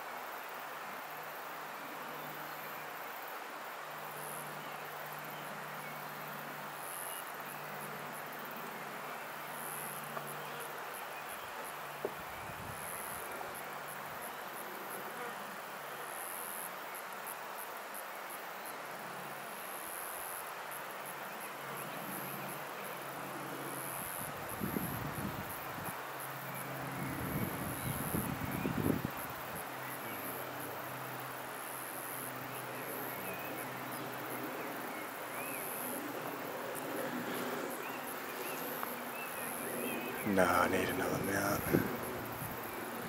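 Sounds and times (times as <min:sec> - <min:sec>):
insect chirping: 0:00.0 - 0:43.0
outdoor background hiss: 0:00.0 - 0:43.0.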